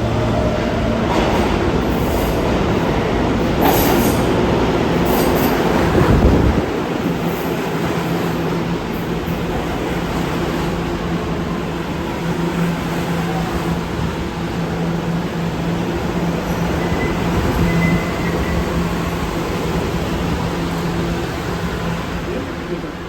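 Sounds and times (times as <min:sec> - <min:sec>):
subway train running: 0:00.0 - 0:23.0.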